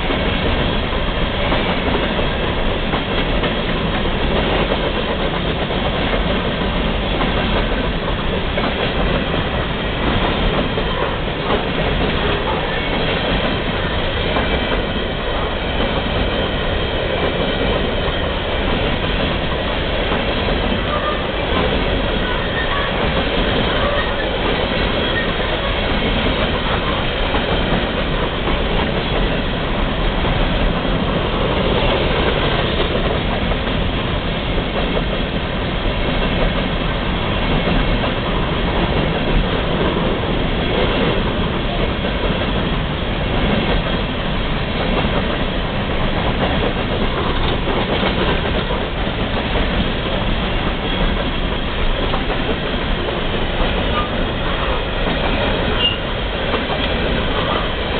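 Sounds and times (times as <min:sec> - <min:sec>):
train wheels rolling on rails: 0:00.0 - 0:57.9.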